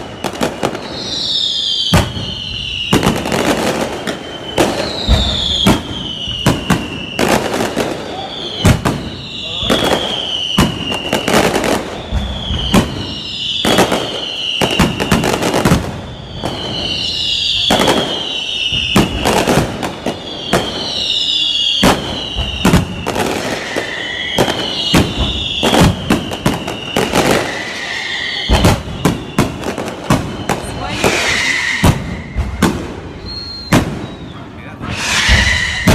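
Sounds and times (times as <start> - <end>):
firework bangs and crackles: 0.0 - 35.9
whistling firework shells: 0.0 - 35.9.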